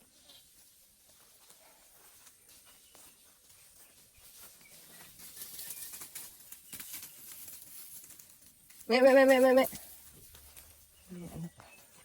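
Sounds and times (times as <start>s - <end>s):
outdoor rustling and patter: 0.0s - 12.0s.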